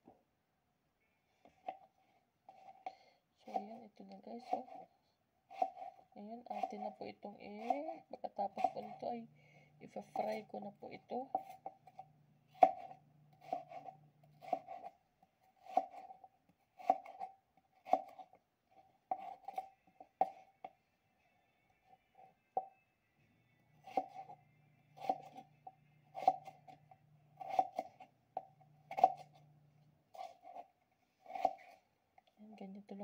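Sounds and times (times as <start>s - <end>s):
knife slicing potato: 1.5s - 9.1s, 9.9s - 20.7s, 23.7s - 31.9s.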